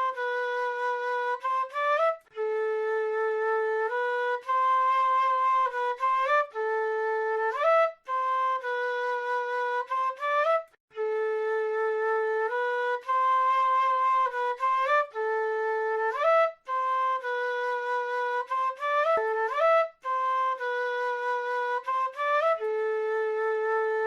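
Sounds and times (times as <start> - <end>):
flute solo melody: 0.0 - 24.0.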